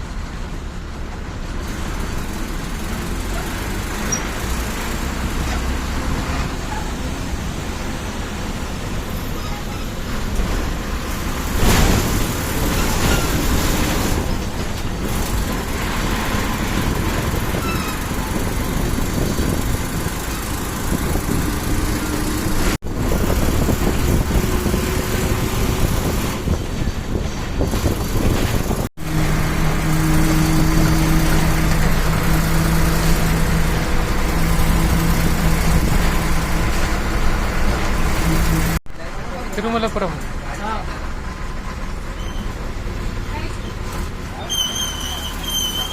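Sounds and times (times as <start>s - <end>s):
bus rumble: 0.0s - 45.9s.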